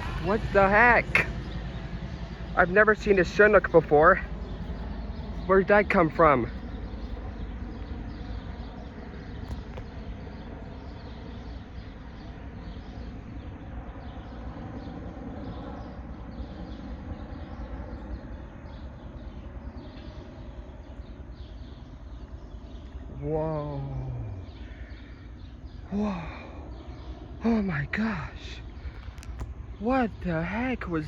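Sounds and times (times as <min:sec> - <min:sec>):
helicopter flying over: 0:00.0 - 0:31.0.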